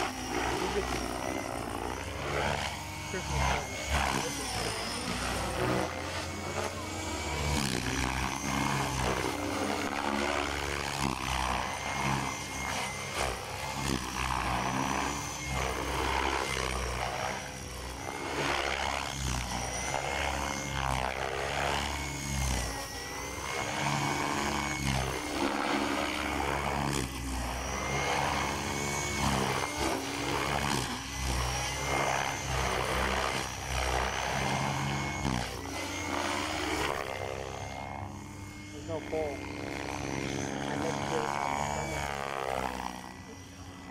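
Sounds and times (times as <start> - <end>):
rc helicopter motor whine: 0.0 - 43.9
rotor blades buzzing: 0.0 - 43.9.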